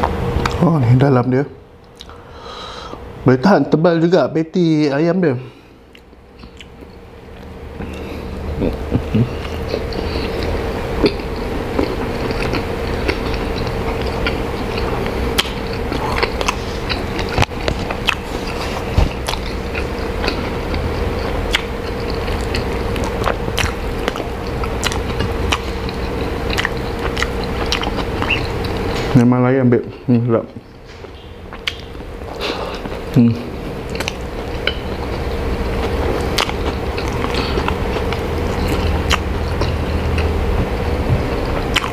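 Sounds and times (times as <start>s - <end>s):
person chewing with mouth clicks: 1.8s - 2.2s, 5.9s - 29.2s, 30.5s - 41.9s.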